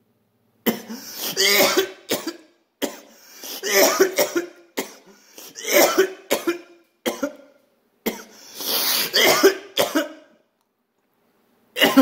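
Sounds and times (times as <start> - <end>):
man coughing: 0.6 - 10.3, 11.8 - 12.0.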